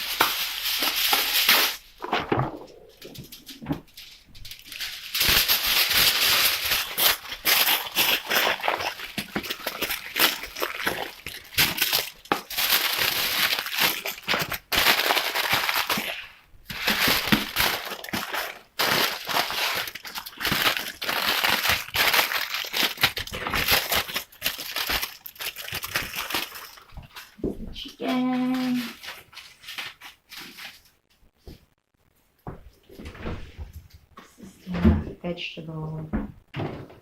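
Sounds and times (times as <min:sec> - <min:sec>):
plastic packaging crinkling: 0:00.0 - 0:31.0.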